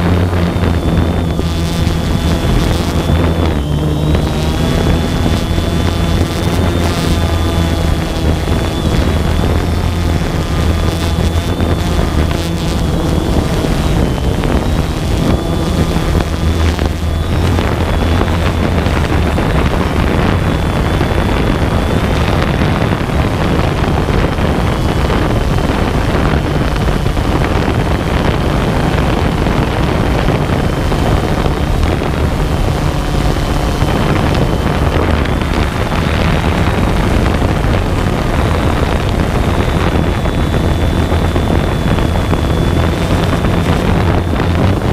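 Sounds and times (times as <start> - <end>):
drone motors humming and whining: 0.0 - 44.9
wind buffeting microphone: 0.0 - 44.9.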